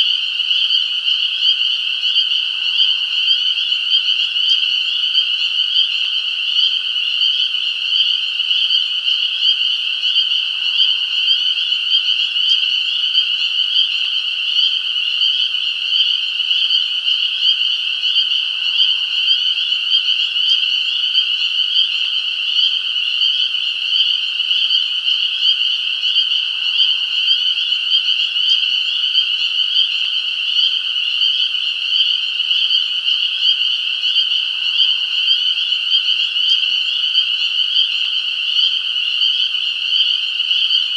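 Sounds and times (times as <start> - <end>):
chorus of frogs trilling: 0.0 - 40.9.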